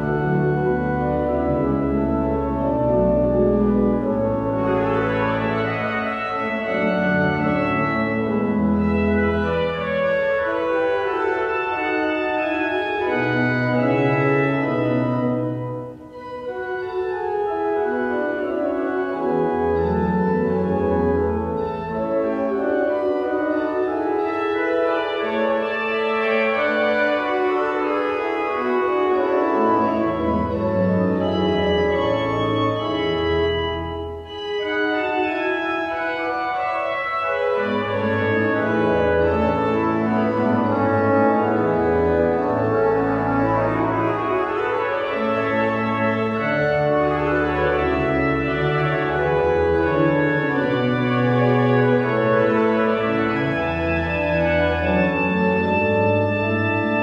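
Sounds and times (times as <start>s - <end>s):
pipe organ playing chorale: 0.0s - 57.0s.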